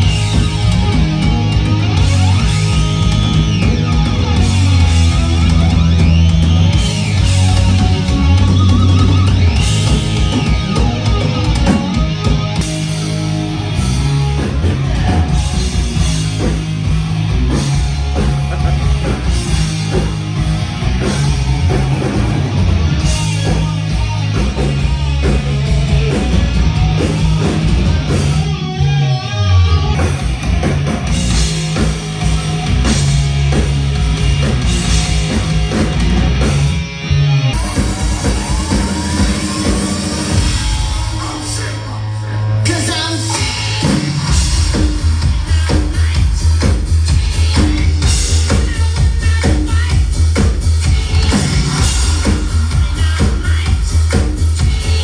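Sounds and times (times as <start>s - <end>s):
hard rock band playing: 0.0s - 55.0s.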